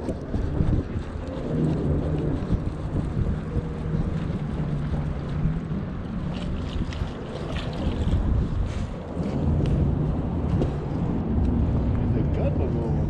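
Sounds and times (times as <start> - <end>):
boat motor humming: 0.0 - 13.0
wind buffeting microphone: 0.0 - 13.0.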